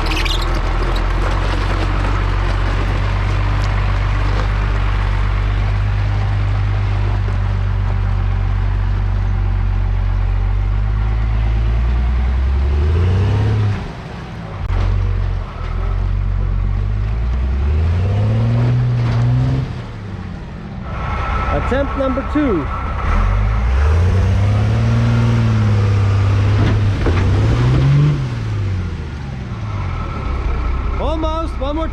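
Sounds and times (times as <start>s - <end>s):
off-road vehicle engine revving: 0.0s - 31.8s.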